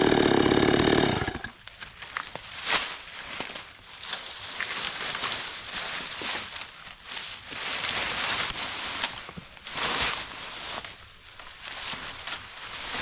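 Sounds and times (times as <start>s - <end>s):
branches and dry leaves rustling: 0.0s - 13.0s.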